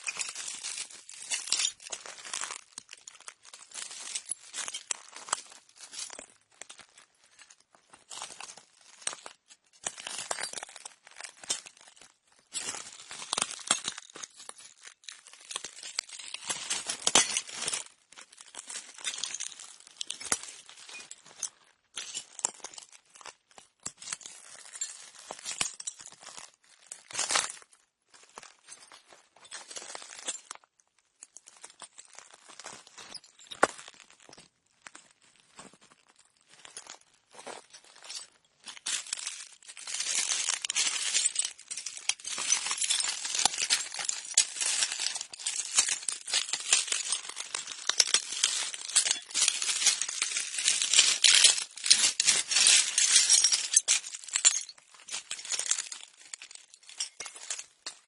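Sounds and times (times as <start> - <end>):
footsteps crunching on broken glass: 0.0 - 30.6, 31.3 - 58.0.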